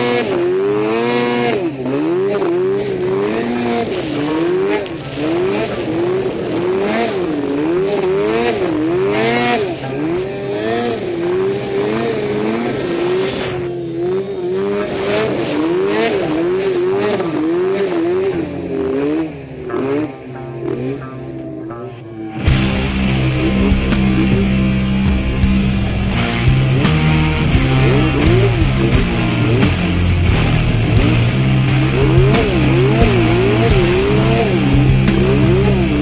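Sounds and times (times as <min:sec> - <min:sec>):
snowmobile engine revving: 0:00.0 - 0:36.0.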